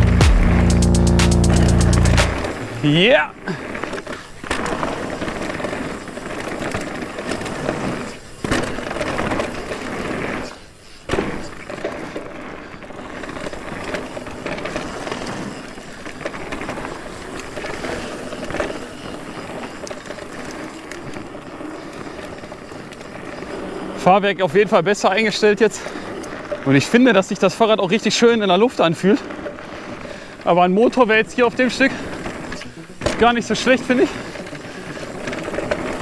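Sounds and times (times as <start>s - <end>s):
bike tyres rattling over dirt: 0.0s - 36.0s.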